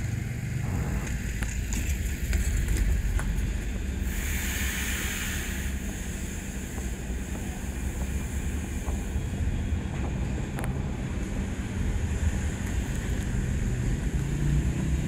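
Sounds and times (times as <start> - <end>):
small car engine rumble: 0.0 - 15.0
vehicles idling: 0.0 - 15.0.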